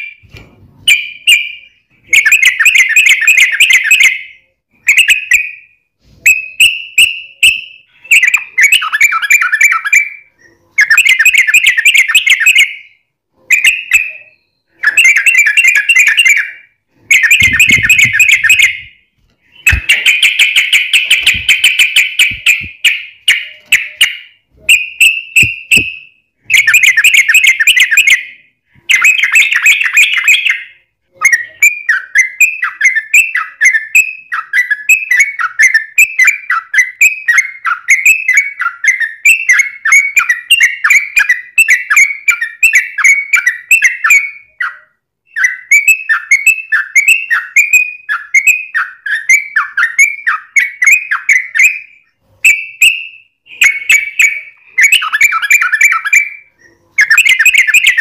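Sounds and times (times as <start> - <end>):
bird chattering song: 6.3 - 58.0.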